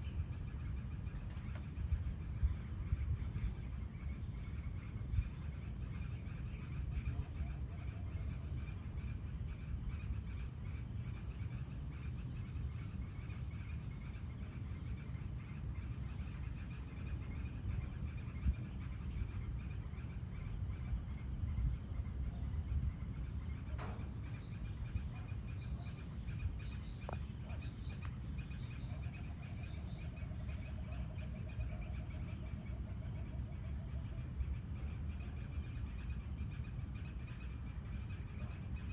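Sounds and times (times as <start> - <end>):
insect pulsing chirp: 0.0 - 38.9
insects buzzing: 0.0 - 38.9
low rapid insect trill: 0.0 - 38.9
low steady rumble: 0.0 - 38.9.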